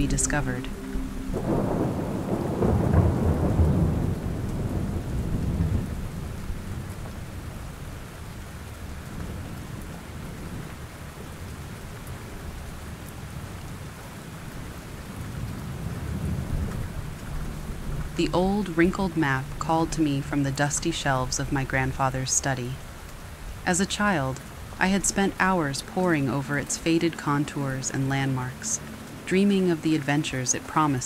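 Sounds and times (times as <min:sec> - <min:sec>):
thunder rumbling: 0:00.0 - 0:13.7, 0:14.3 - 0:31.0
steady rain: 0:00.0 - 0:31.0.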